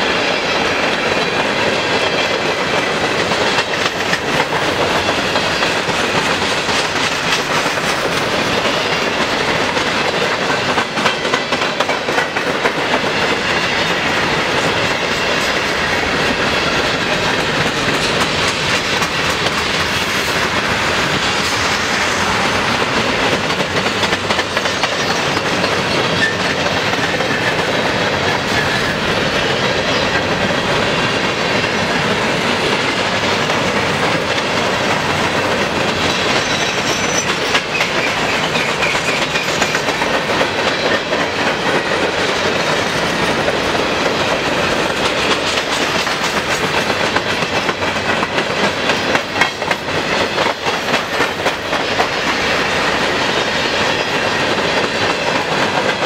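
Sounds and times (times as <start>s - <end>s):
steel wheels rumbling on rail: 0.0s - 56.0s
wheels clickety-clack: 0.0s - 56.0s.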